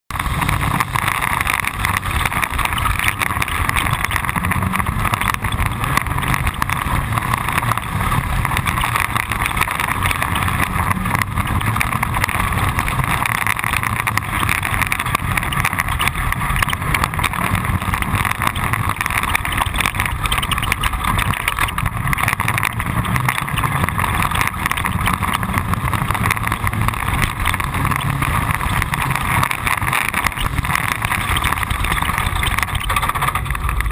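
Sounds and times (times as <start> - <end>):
tyre and chassis noise: 0.0 - 33.9
vehicle engine drone: 0.0 - 33.9.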